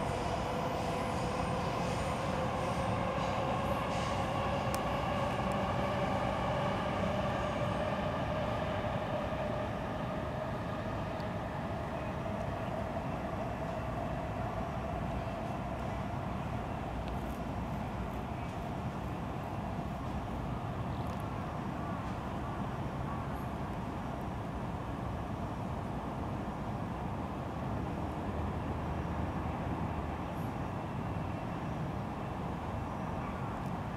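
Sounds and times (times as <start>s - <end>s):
distant passing train hum: 0.0s - 33.9s.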